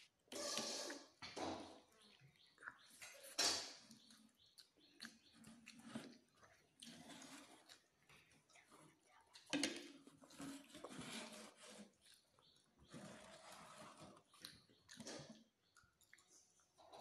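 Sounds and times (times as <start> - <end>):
children chewing and slurping: 0.0 - 17.0.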